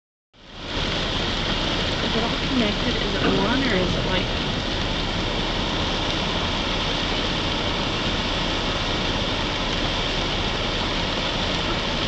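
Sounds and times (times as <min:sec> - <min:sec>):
floodwater rushing: 0:00.4 - 0:12.0.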